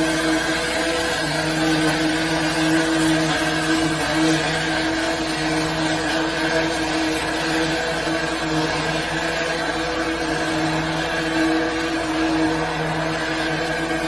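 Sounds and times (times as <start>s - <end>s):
drain jetter engine and pump drone: 0.0s - 14.0s
hissing water jet: 0.0s - 14.0s.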